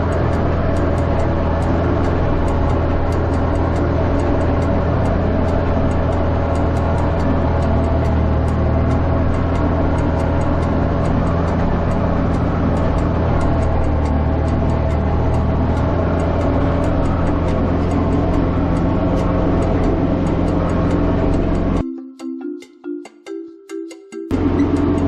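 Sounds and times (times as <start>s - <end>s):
tractor engine droning: 0.0s - 21.8s, 24.3s - 25.0s.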